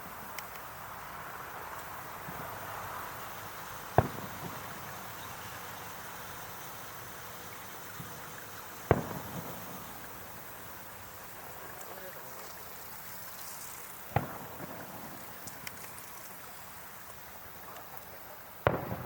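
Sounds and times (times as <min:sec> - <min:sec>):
fireworks bursting: 0:00.0 - 0:19.0
steady background hiss: 0:00.0 - 0:19.0.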